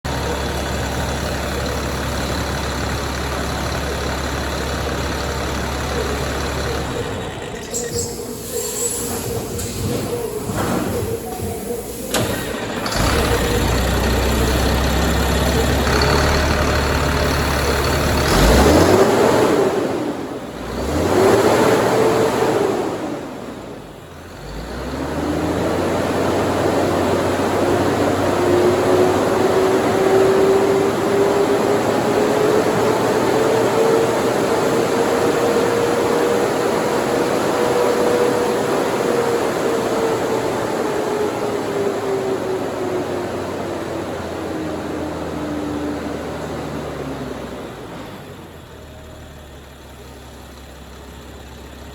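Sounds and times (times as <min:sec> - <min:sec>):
diesel engine idling and revving: 0:00.0 - 0:51.9.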